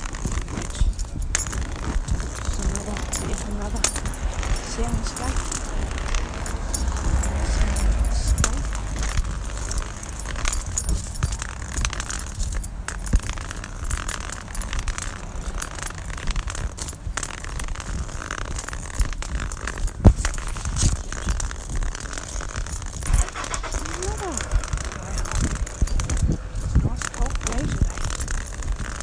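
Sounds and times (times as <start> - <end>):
handling clicks and rustles: 0.0 - 29.0
low rumble: 0.0 - 29.0.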